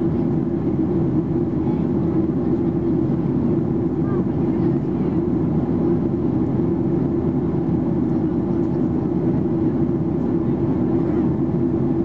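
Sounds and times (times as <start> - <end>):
airplane cabin drone: 0.0 - 12.0.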